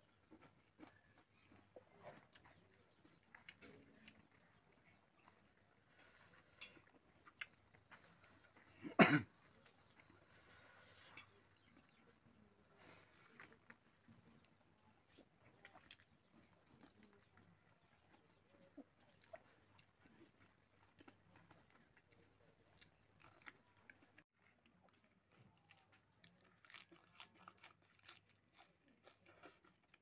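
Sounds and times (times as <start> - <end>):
chewing and mouth smacks: 0.0 - 30.0.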